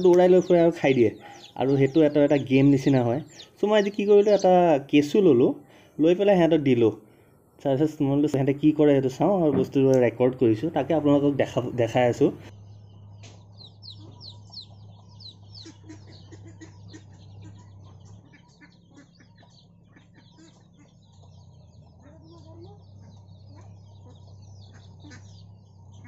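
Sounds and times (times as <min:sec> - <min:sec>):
chicks peeping: 0:00.0 - 0:26.0
steady low hum: 0:00.0 - 0:26.0.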